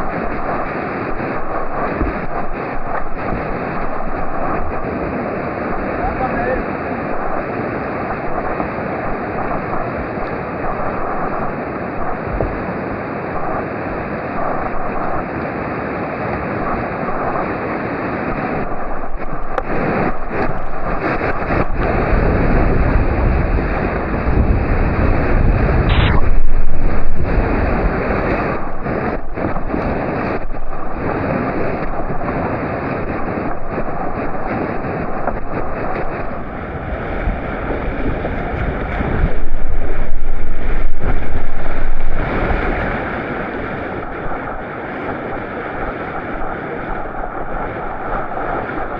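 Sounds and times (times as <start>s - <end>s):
rushing whitewater: 0.0s - 48.9s
wind buffeting microphone: 0.0s - 48.9s.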